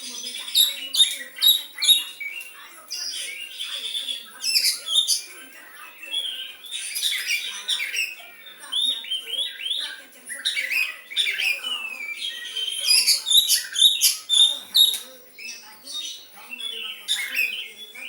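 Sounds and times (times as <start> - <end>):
bird singing chirps and whistles: 0.0 - 18.0.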